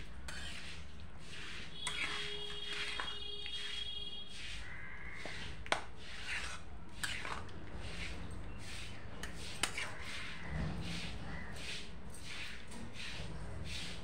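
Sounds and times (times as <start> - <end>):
metal spatula scraping and stirring: 0.0 - 14.0.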